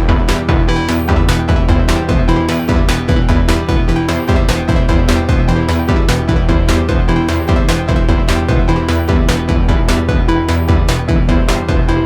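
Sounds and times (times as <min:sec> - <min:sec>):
percussive synth hits: 0:00.0 - 0:12.0
synth bass notes: 0:00.0 - 0:12.0.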